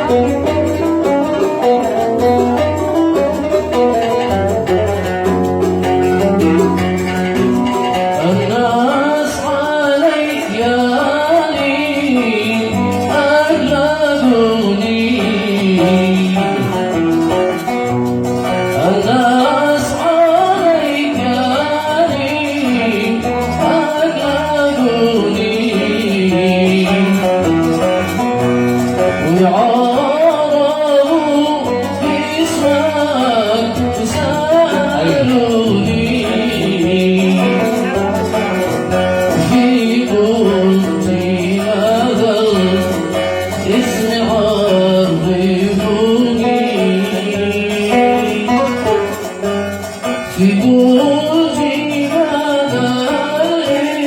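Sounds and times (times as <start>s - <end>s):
man singing: 0.0s - 54.0s
plucked oud: 0.0s - 54.0s.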